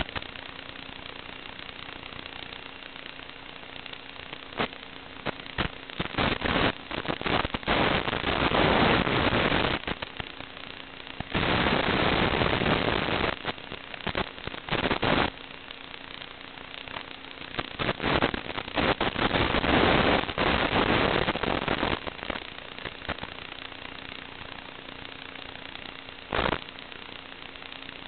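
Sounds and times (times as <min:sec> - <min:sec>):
crackling static hiss: 0:00.0 - 0:28.0
faint steady hum: 0:00.0 - 0:28.0.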